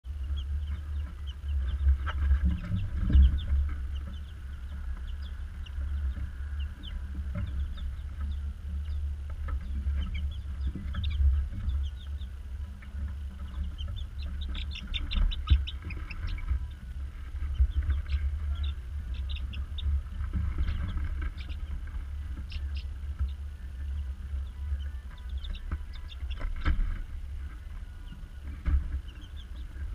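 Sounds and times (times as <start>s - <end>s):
chicks peeping: 0.0s - 29.9s
steady low hum: 0.0s - 29.9s.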